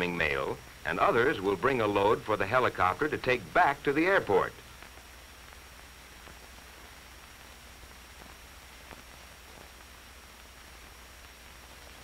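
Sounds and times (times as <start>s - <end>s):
faint high whine: 0.0s - 12.0s
film soundtrack hiss and hum: 0.0s - 12.0s.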